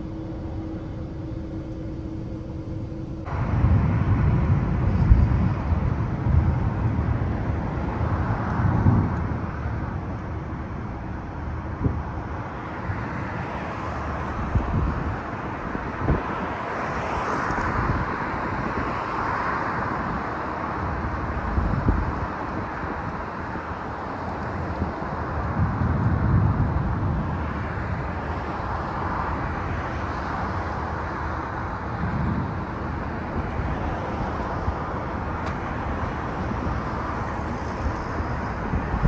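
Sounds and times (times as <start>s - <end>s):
road vehicle rumbling: 0.0s - 39.0s.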